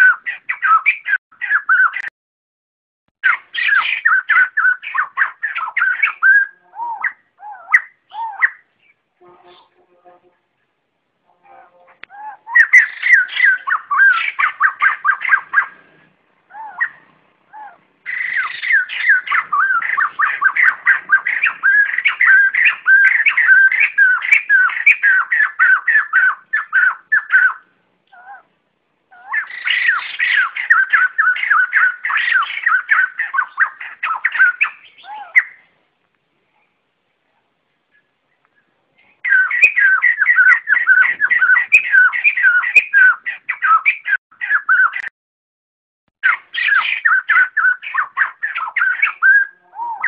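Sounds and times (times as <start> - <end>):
birds chattering cackles: 0.0 - 2.1, 3.2 - 9.9, 12.0 - 28.5, 29.1 - 35.7, 37.9 - 45.1, 46.2 - 50.0.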